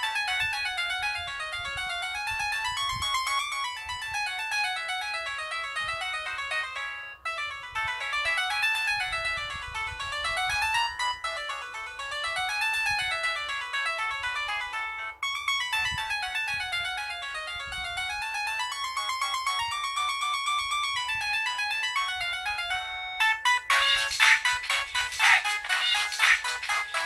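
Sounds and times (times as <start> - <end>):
phone ringtone melody: 0.0 - 27.0.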